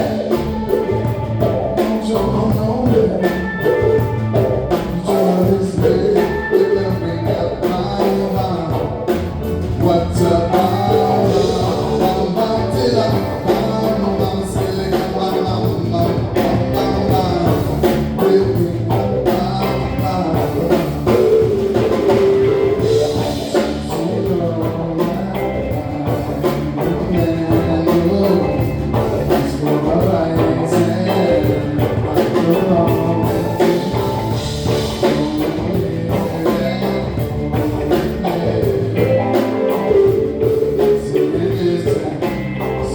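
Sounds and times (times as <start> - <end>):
live band music: 0.0 - 42.9.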